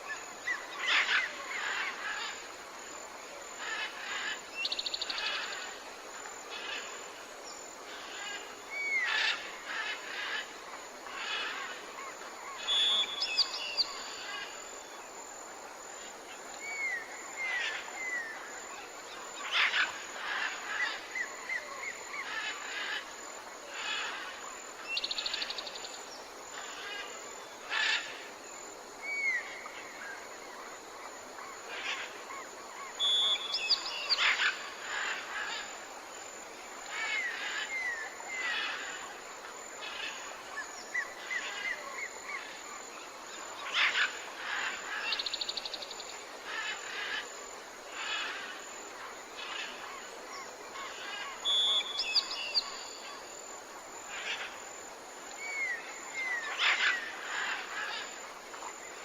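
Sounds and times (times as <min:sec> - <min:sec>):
wild birds calling and singing: 0:00.0 - 0:02.5, 0:07.8 - 0:14.8, 0:16.6 - 0:28.2, 0:29.0 - 0:53.4, 0:54.0 - 0:59.0
faint outdoor hiss: 0:00.0 - 0:59.0.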